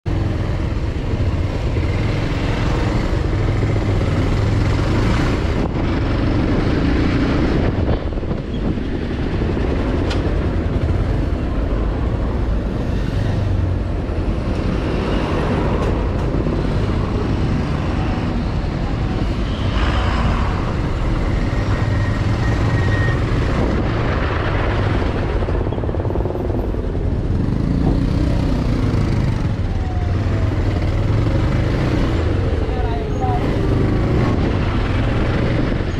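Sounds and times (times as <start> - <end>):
motorcycle engine at low speed: 0.1 - 19.6, 20.5 - 35.9
traffic engines running: 0.1 - 35.9.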